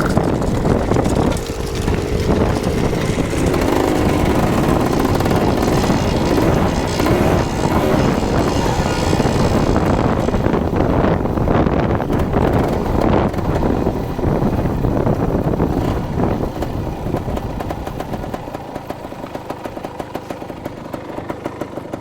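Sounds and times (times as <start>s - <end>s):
dirt bike engine: 0.0s - 22.0s.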